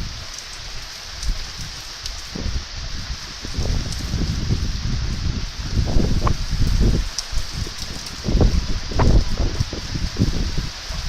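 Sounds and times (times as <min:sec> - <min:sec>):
leaves rustling: 0:00.0 - 0:11.0
wind buffeting microphone: 0:00.0 - 0:11.0.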